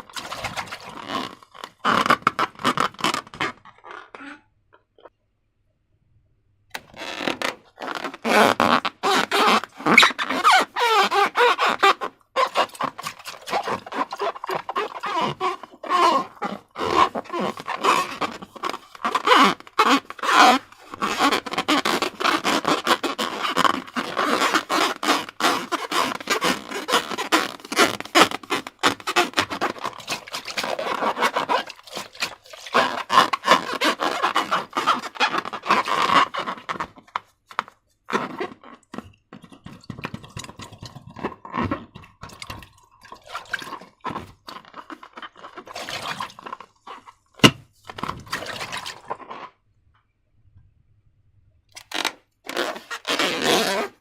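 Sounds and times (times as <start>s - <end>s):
slime crackling and scraping: 0.0s - 4.4s, 6.9s - 49.6s.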